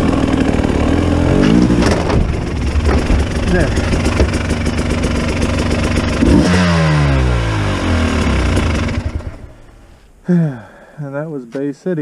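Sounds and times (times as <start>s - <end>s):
dirt bike engine revving: 0.0s - 9.6s.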